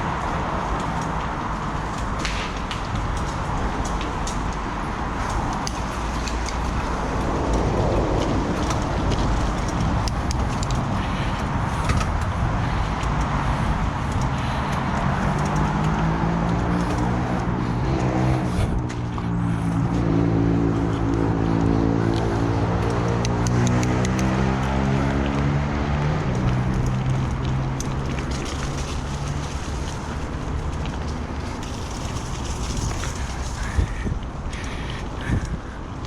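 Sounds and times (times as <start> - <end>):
bike tyre and rattle noise: 0.0 - 36.0
vehicle engine: 0.0 - 36.0
wind rushing over microphone: 0.0 - 36.0.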